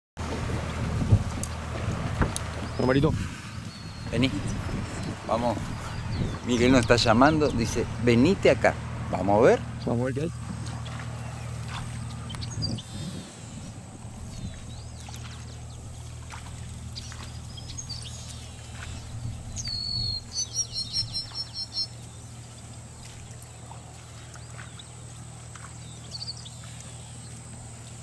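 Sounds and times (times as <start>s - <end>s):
low hum: 0.2s - 28.0s
wild birds calling: 1.4s - 28.0s.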